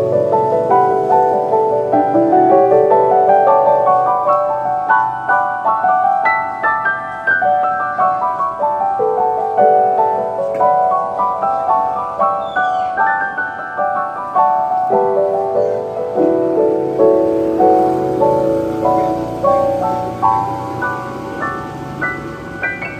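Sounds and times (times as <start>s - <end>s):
piano music: 0.0s - 22.9s.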